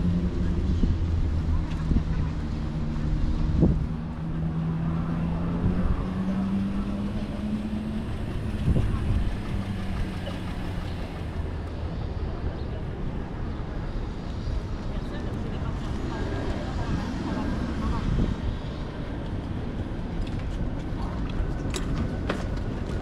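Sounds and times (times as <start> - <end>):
low rumble of traffic: 0.0 - 23.0
vehicle engine humming: 0.0 - 23.0.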